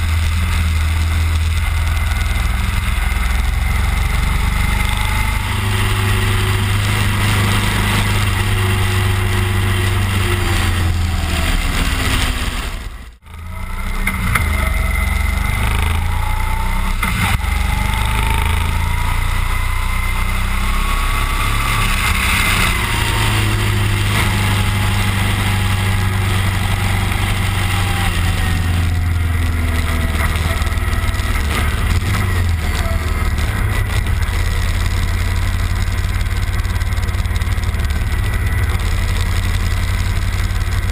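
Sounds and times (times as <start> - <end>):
motorcycle engine revving: 0.0 - 40.9
road and wind noise: 0.0 - 40.9.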